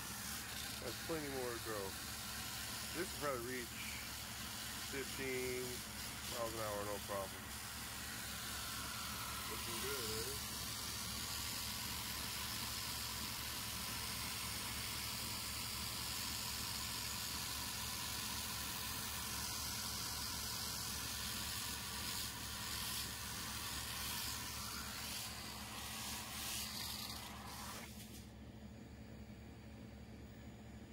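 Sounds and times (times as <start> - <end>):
toy car electric motor whirring: 0.0 - 28.2.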